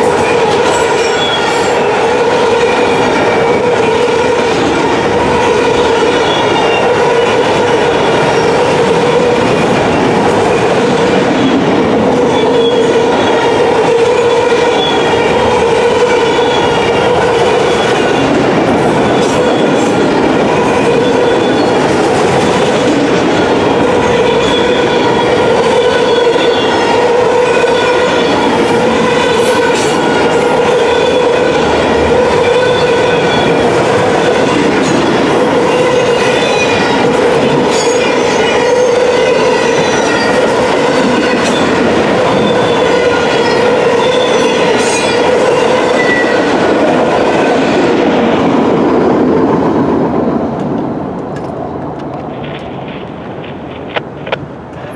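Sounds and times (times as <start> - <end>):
freight train rolling rumble: 0.0 - 54.9.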